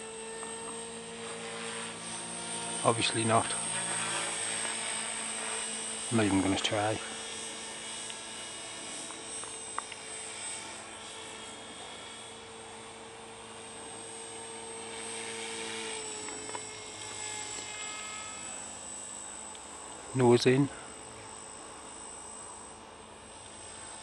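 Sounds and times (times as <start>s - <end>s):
rc helicopter motor whine: 0.0s - 24.0s.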